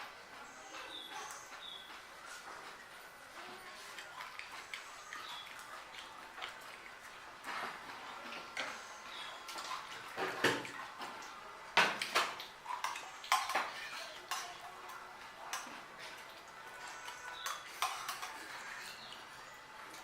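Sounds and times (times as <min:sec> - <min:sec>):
wet chewing: 0:00.8 - 0:20.0.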